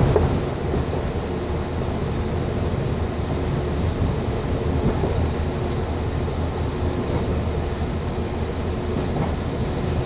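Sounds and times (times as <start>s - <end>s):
moving train rumbling: 0.0s - 10.0s.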